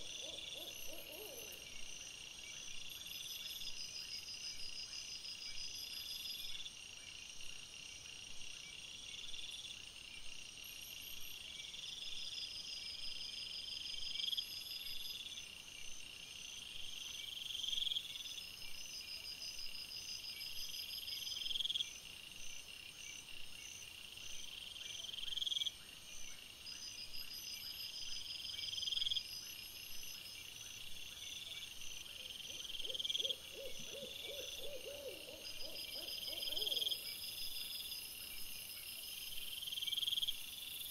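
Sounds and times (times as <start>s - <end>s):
low rapidly pulsing insect call: 0.0s - 40.9s
night insects chirring: 0.0s - 40.9s.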